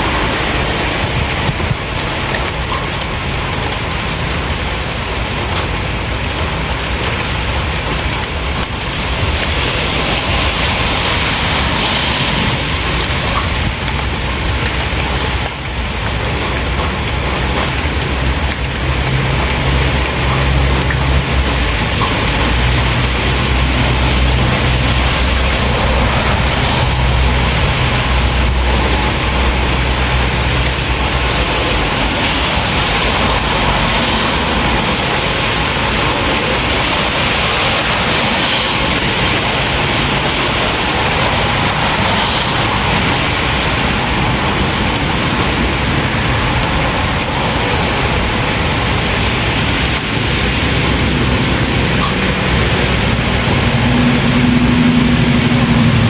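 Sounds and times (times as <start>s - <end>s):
heavy rainfall: 0.0s - 56.0s
low rumble: 0.0s - 56.0s.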